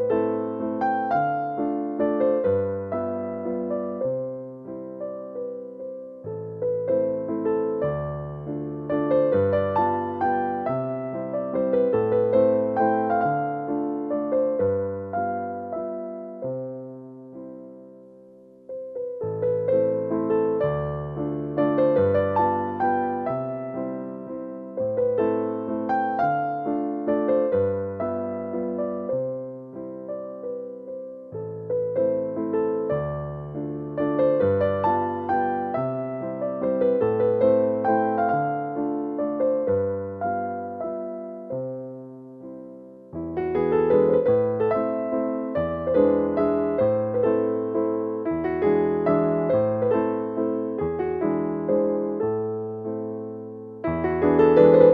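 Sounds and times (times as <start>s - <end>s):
gentle piano melody: 0.0s - 54.9s.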